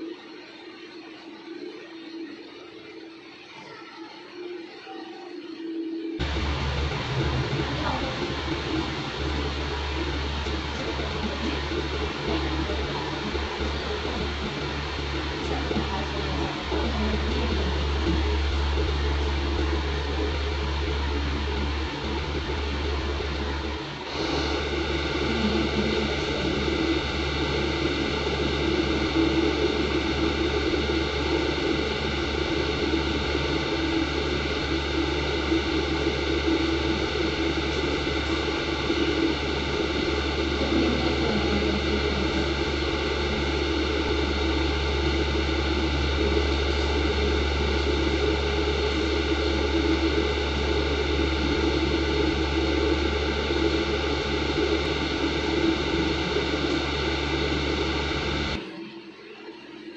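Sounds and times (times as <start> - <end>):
steady hum with hiss: 6.2 - 58.7.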